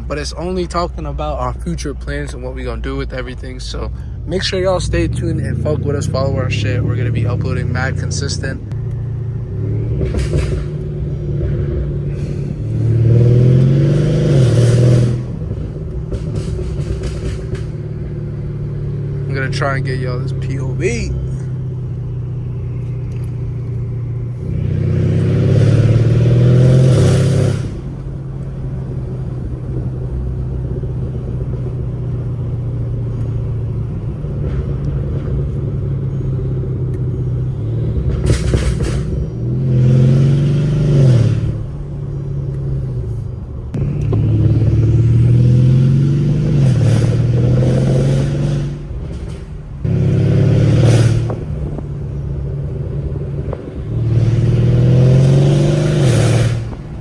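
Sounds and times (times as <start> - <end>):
car engine accelerating: 0.0 - 57.0
engine cruising drone: 0.0 - 57.0.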